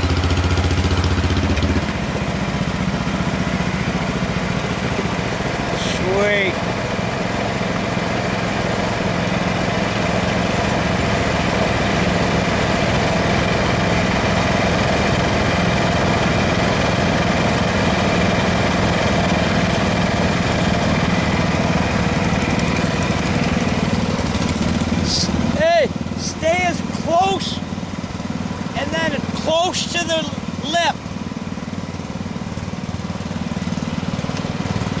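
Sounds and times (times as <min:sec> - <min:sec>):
lawn tractor engine running: 0:00.0 - 0:35.0.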